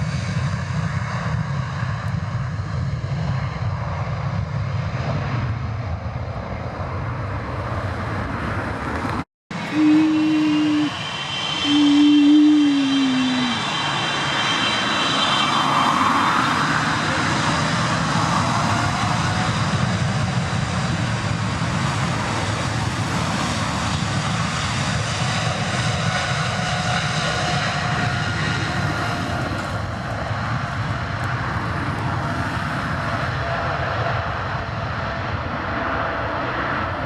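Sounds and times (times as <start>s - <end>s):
jet engine roar: 0.0s - 37.0s.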